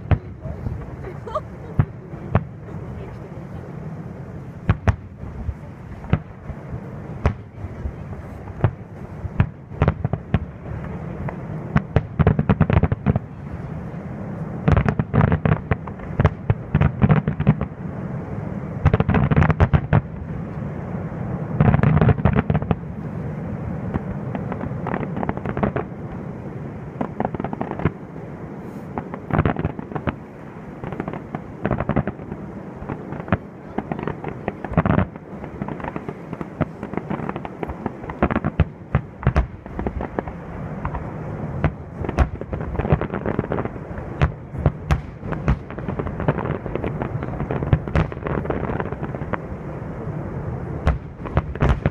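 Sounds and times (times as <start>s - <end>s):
fireworks bursting and banging: 0.0s - 51.9s.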